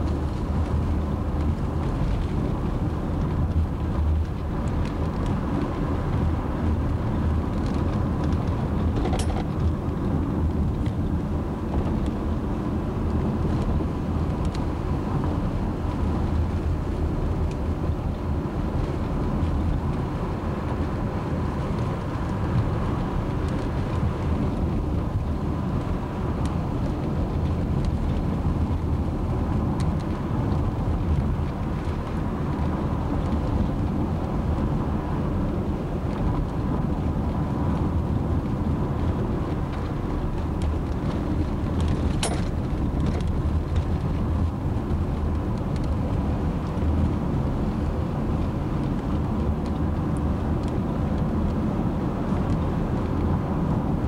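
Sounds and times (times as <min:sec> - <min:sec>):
car engine rumble: 0:00.0 - 0:54.0
tyres on the road: 0:00.0 - 0:54.0.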